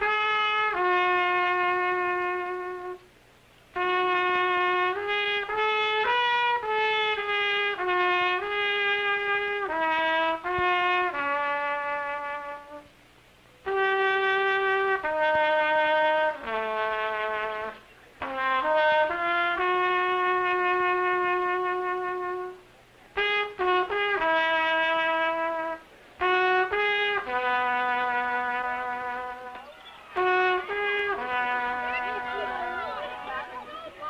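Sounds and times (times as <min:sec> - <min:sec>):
solo brass melody: 0:00.0 - 0:13.0, 0:13.6 - 0:34.0.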